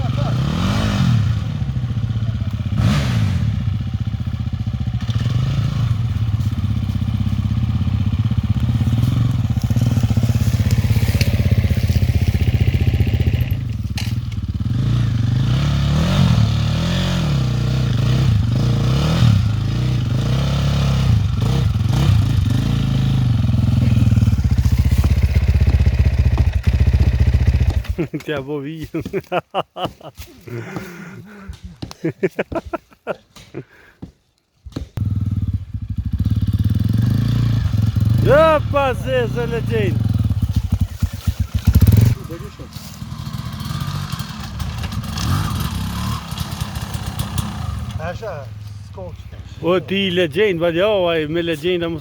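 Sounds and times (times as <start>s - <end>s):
dirt bike engines revving: 0.0s - 28.8s, 35.0s - 52.0s.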